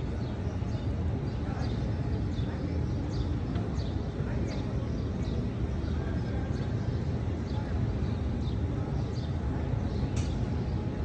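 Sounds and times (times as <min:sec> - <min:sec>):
faint crowd voices: 0:00.0 - 0:11.0
small birds chirping: 0:00.0 - 0:11.0.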